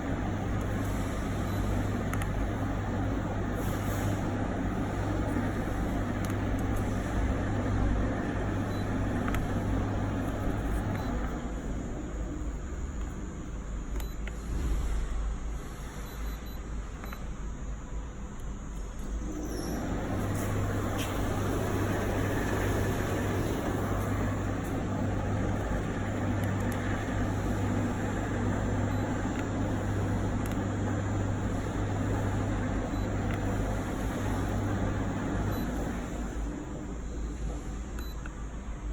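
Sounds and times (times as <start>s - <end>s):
tumble dryer rumbling: 0.0s - 13.8s, 19.2s - 38.1s
machine motor humming: 0.0s - 15.9s, 18.8s - 38.9s.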